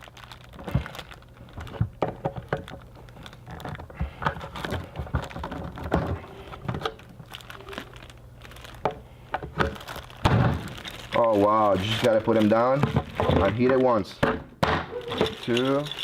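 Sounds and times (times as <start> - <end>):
plastic packaging crinkling: 0.0 - 14.1, 14.9 - 16.0
plastic parts knocking and clicking: 0.5 - 7.0, 8.7 - 16.0.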